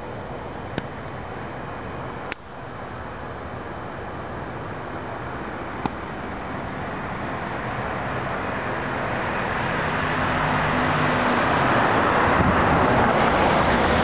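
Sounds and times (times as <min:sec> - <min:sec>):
road traffic rush: 0:00.0 - 0:14.0.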